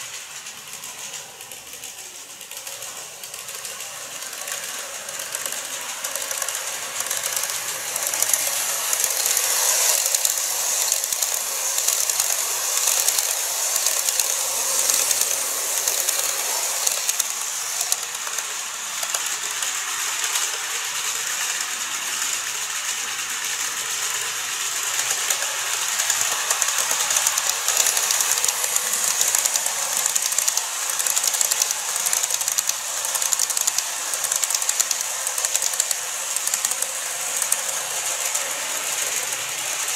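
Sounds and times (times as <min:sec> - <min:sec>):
model train wheels clicking: 0:00.0 - 0:39.9.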